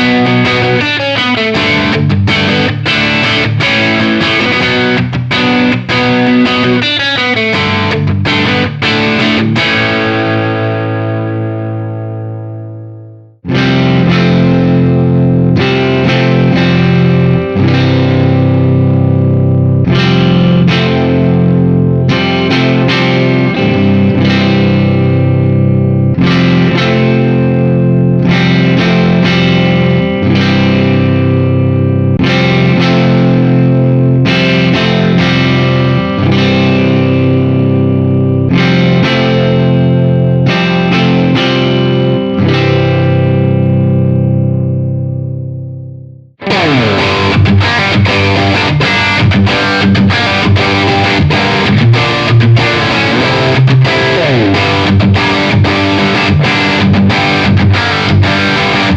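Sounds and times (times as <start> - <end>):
distorted electric guitar chords: 0.0 - 58.9.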